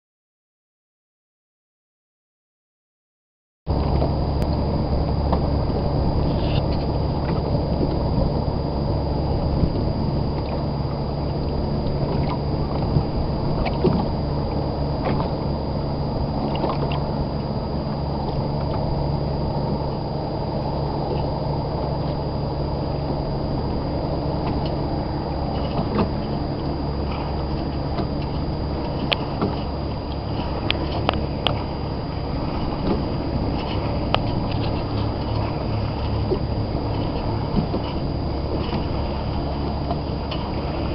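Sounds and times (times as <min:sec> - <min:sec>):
boat engine hum: 0:03.7 - 0:40.9
water sloshing against hull: 0:03.7 - 0:40.9.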